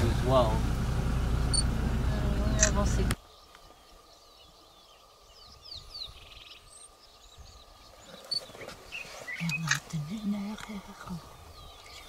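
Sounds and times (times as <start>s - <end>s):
bird chirps: 1.5s - 12.0s.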